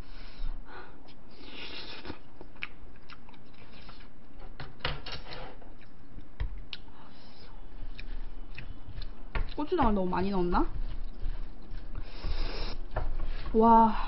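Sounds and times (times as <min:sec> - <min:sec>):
chewing rice: 0:01.0 - 0:04.4, 0:05.6 - 0:13.5.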